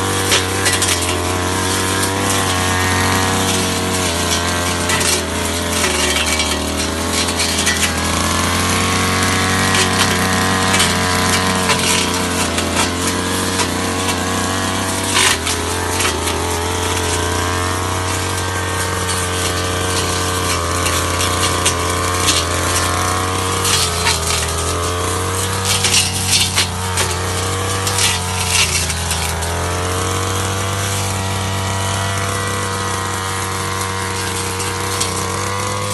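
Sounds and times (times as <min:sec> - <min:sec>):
blade ticking against stems: 0:00.0 - 0:29.5
brush cutter engine running: 0:00.0 - 0:35.9.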